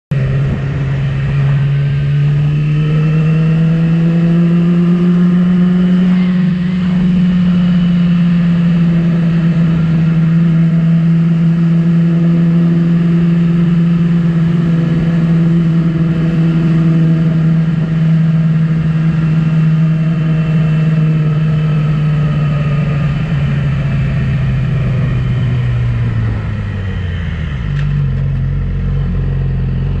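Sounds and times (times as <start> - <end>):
motorcycle engine revving: 0.1 - 30.0.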